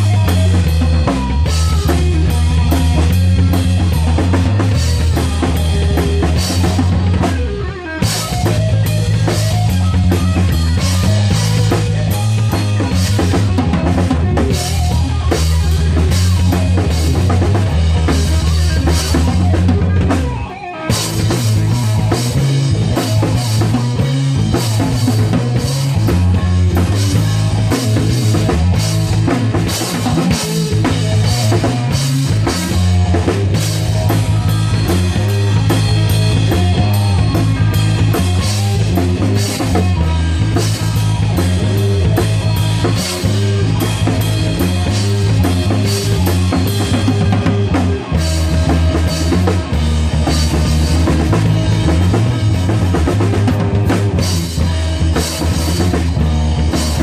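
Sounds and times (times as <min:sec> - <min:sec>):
instrumental rock band: 0:00.0 - 0:57.0.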